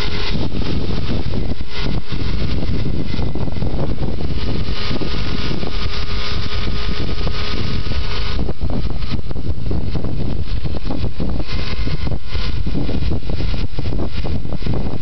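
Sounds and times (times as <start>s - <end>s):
model plane motor: 0.0s - 15.0s
wind buffeting microphone: 0.0s - 15.0s.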